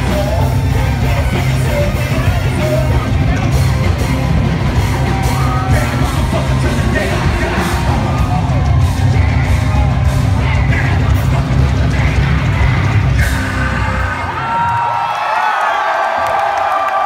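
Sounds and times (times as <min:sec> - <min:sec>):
rap-rock band playing: 0:00.0 - 0:15.1.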